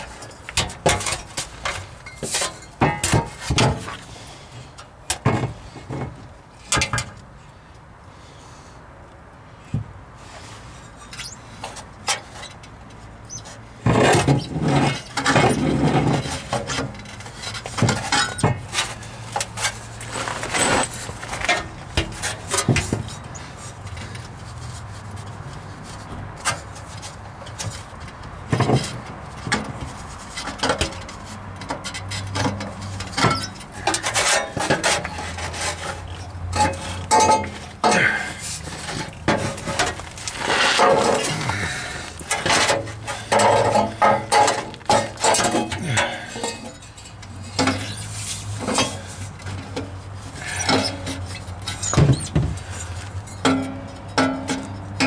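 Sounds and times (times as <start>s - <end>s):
metal clinks and scrapes: 10.4s - 55.0s.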